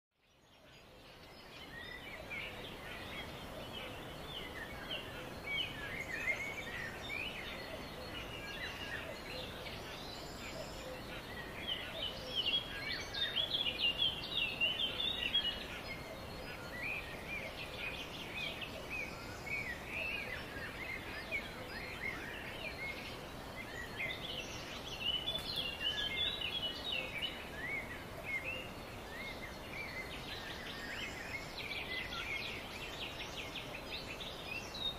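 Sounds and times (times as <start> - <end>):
steady outdoor hiss: 0.2 - 34.9
birds chirping and calling: 0.5 - 34.9.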